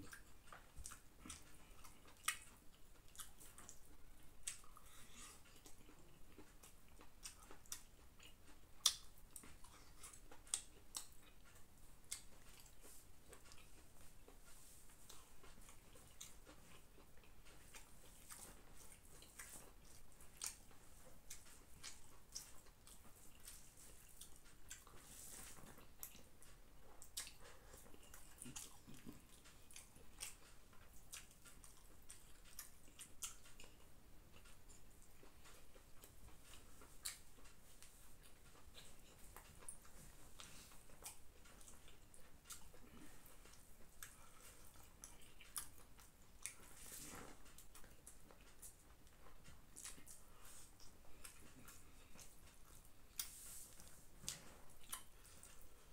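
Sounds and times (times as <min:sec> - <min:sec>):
chewing: 0:00.0 - 0:55.9.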